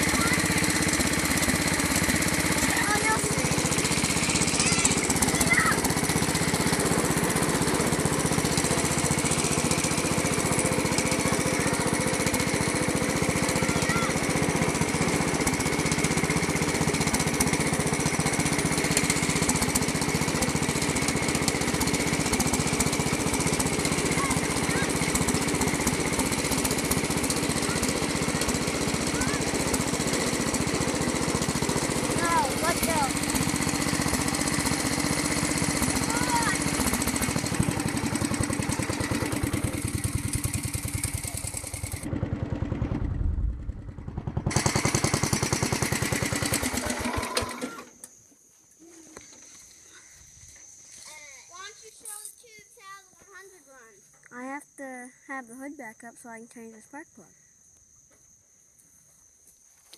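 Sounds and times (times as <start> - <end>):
lawn tractor engine running: 0.0 - 48.1.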